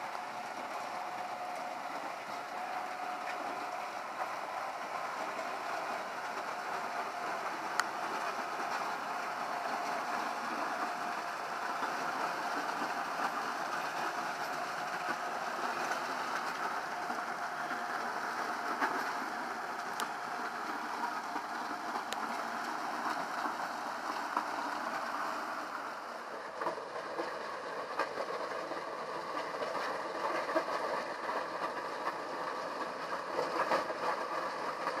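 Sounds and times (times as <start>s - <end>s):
motor grader rumbling: 0.0s - 35.0s.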